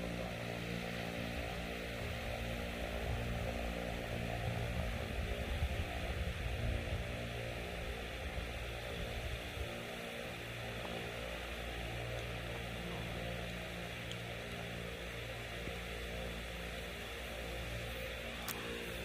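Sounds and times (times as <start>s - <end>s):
constant hiss: 0.0s - 19.0s
steady low hum: 0.0s - 19.0s.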